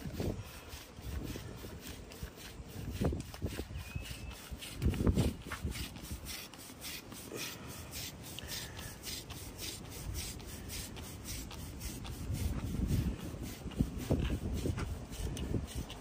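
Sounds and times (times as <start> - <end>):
rhythmic rasping strokes: 0.0 - 16.0.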